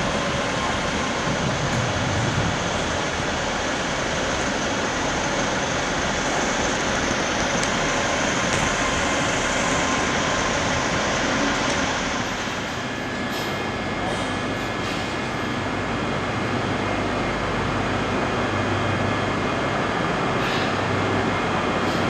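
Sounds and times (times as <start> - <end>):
train running: 0.0 - 22.0.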